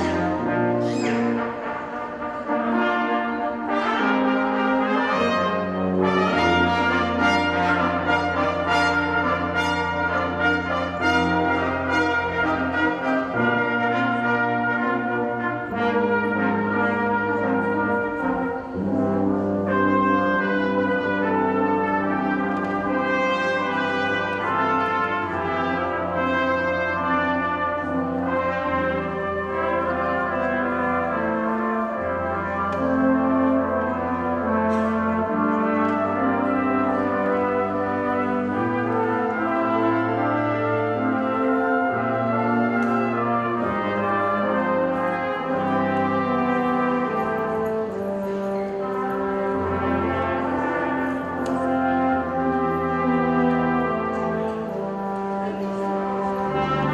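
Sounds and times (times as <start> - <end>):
brass ensemble playing chords: 0.0 - 56.9.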